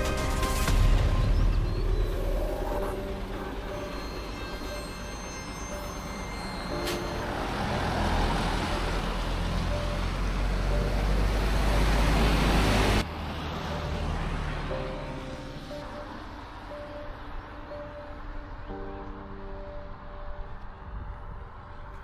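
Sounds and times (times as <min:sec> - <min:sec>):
road vehicle rushing rumble: 0:00.0 - 0:18.6.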